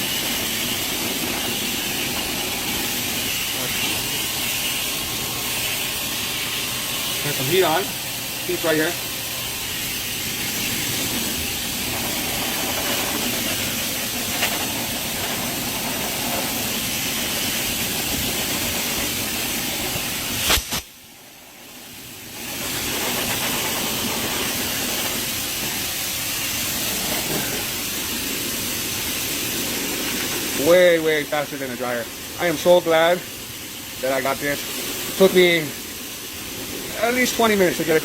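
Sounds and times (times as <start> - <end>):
hair dryer blowing: 0.0 - 33.0.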